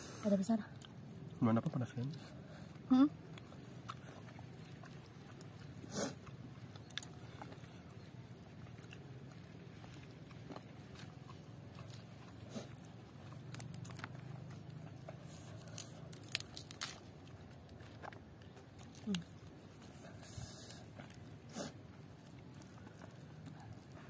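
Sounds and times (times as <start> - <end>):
faint low hum: 0.0 - 24.0
mouth chewing clicks and smacks: 3.2 - 24.0.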